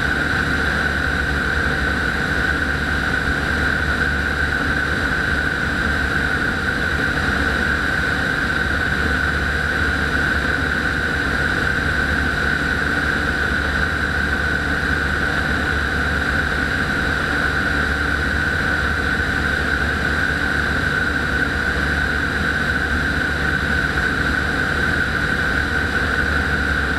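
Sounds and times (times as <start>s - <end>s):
aircraft engine and propeller drone: 0.0s - 26.9s.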